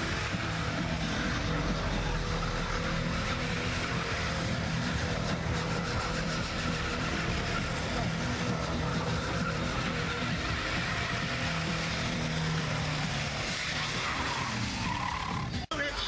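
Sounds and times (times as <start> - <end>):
car engines running: 0.0 - 16.0.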